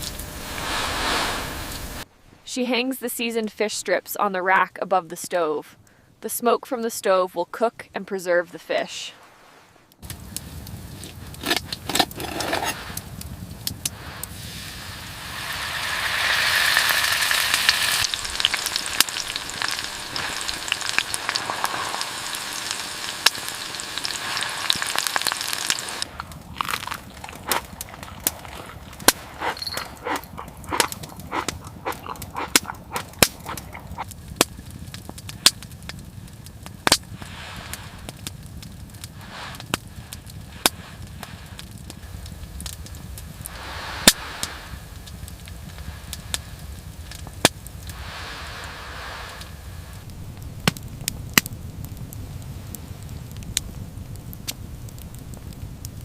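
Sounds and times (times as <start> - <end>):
wood fire crackling and popping: 0.0 - 2.1, 9.9 - 56.0
steady sizzling hiss: 0.0 - 56.0.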